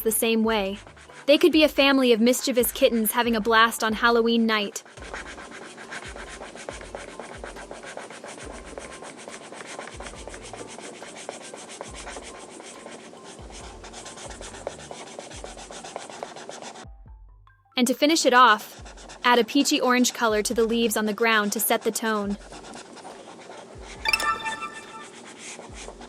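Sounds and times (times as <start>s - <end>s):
drawing tool scratching on paper: 0.0s - 4.1s, 4.8s - 16.9s, 18.1s - 24.0s, 25.0s - 26.0s.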